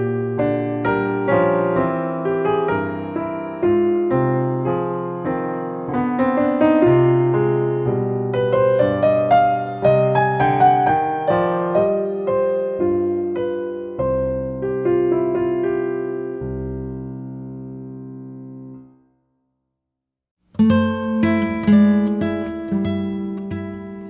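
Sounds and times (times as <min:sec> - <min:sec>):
gentle piano piece: 0:00.0 - 0:19.0, 0:20.5 - 0:24.0.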